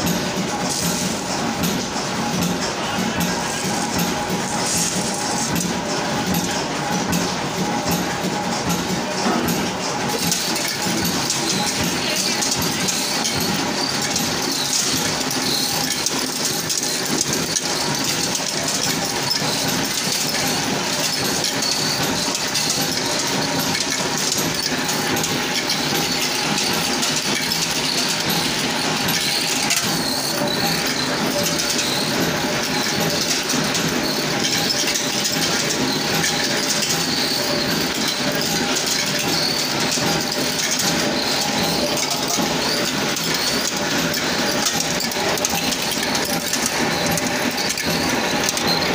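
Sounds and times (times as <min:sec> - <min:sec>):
machine metallic clatter: 0:00.0 - 0:48.9.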